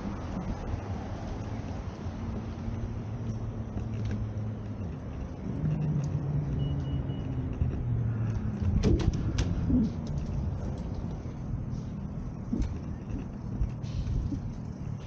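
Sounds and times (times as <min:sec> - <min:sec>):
street noise: 0:00.0 - 0:15.0
vehicle engine humming: 0:00.0 - 0:15.0.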